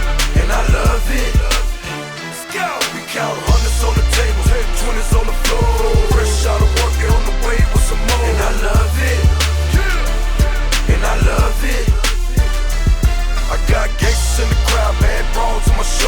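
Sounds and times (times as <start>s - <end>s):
hip hop song with bass beat: 0.0s - 16.0s.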